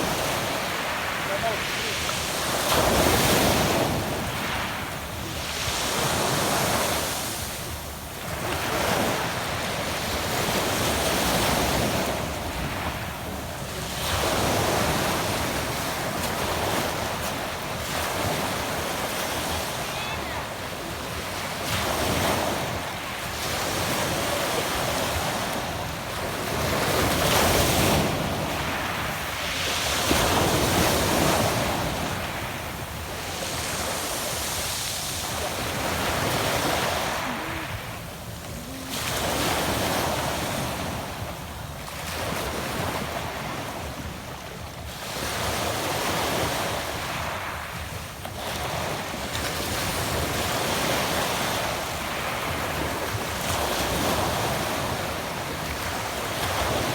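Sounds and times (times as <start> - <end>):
waves on pebble beach: 0.0 - 56.9.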